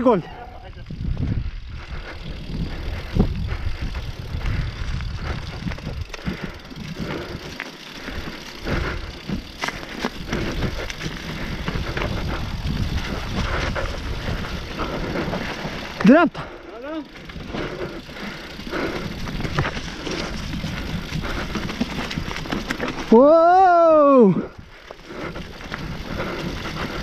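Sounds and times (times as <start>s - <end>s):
bike rattling over bumps: 0.0s - 27.0s
bike tyres on dirt and leaves: 0.0s - 27.0s.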